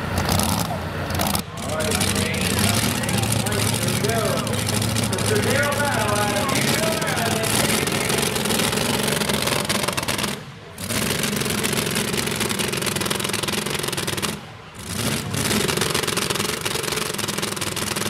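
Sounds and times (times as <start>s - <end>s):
loud truck engine running: 0.0s - 18.0s.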